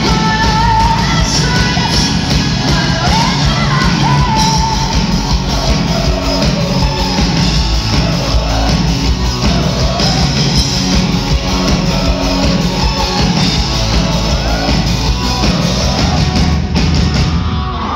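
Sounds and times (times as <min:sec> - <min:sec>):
live rock band playing: 0:00.0 - 0:17.9.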